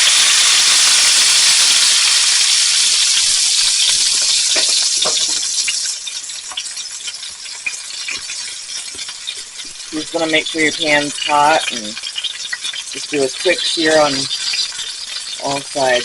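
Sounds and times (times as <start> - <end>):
meat sizzling in oil: 0.0 - 16.0.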